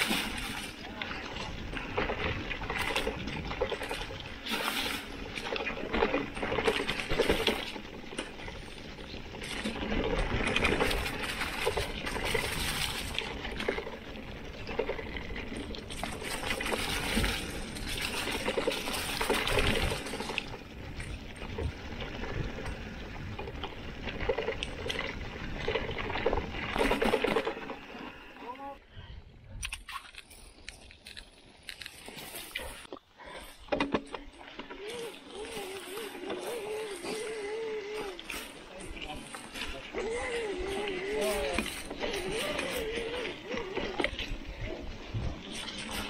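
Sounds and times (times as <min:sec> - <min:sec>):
bike tyres rolling through grass: 0:00.0 - 0:28.4, 0:30.3 - 0:46.0.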